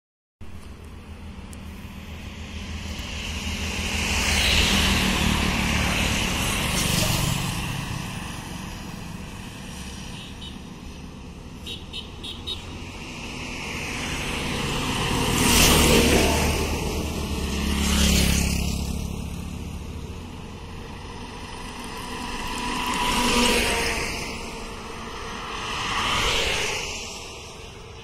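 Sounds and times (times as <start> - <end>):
highway traffic passing: 0.4 - 28.0
truck passing: 1.1 - 28.0.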